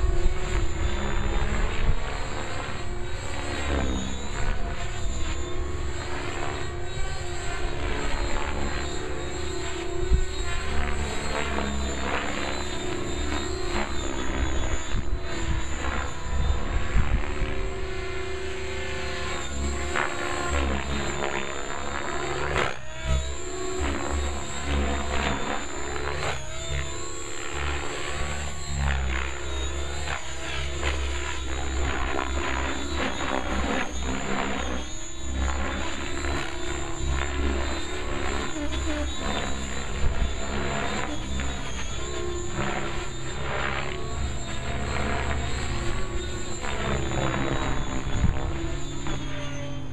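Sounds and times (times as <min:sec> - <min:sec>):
electric motor whining: 0:00.0 - 0:49.9
helicopter rotor blades whirring: 0:00.0 - 0:49.9.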